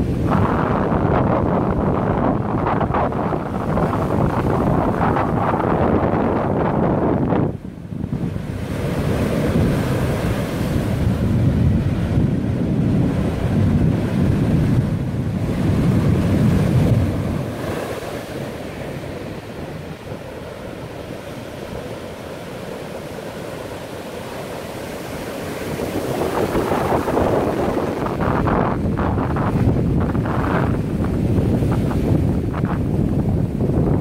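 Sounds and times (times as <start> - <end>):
sea surf breaking on beach: 0.0 - 34.0
wind buffeting microphone: 0.0 - 34.0.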